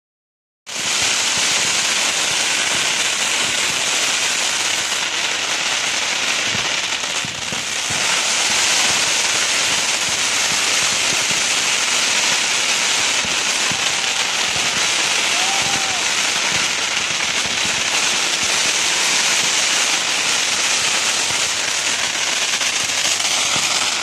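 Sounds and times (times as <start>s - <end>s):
fireworks crackling and bursting: 0.7s - 24.0s.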